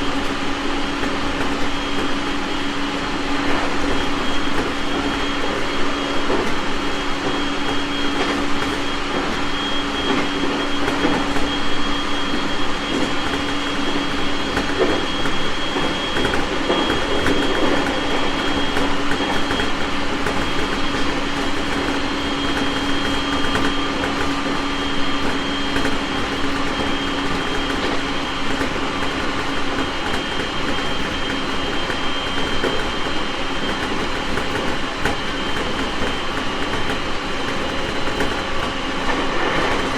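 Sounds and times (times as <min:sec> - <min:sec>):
high drive whine: 0:00.0 - 0:39.9
wheel-on-rail rumble: 0:00.0 - 0:39.9.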